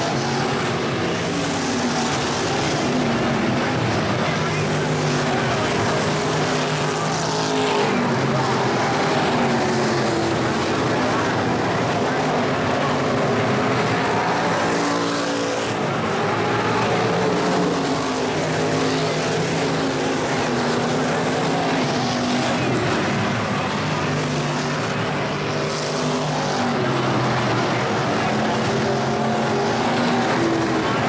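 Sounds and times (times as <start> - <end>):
stock car engines racing: 0.0 - 31.0.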